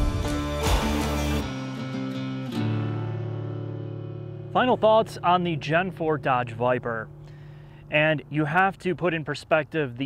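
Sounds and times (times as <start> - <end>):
guitar chords ringing: 0.0 - 10.0.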